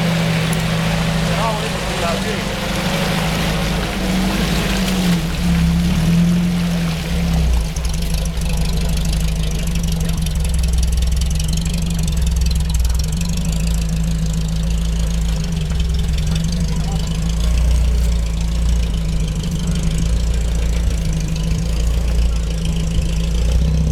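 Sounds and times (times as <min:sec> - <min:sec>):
vehicle engine running low speed: 0:00.0 - 0:23.9.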